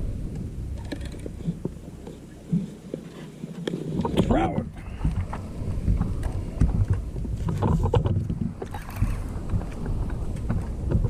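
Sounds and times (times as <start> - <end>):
wind rumbling on microphone: 0.0 - 11.0
water slapping against kayak hull: 0.3 - 11.0.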